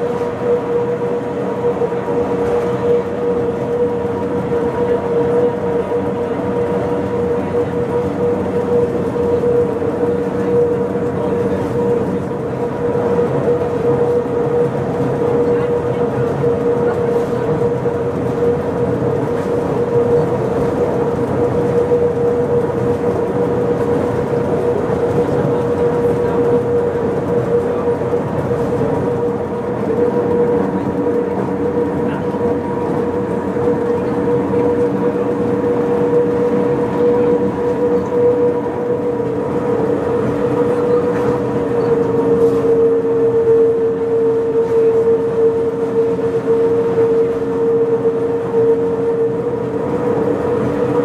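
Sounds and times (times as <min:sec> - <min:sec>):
railcar rumbling: 0:00.0 - 0:51.0.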